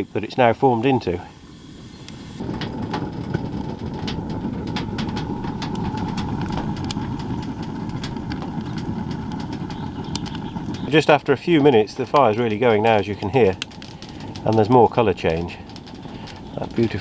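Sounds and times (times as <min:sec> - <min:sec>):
fire crackling and popping: 0:00.0 - 0:17.0
stove draft rumble: 0:00.0 - 0:17.0.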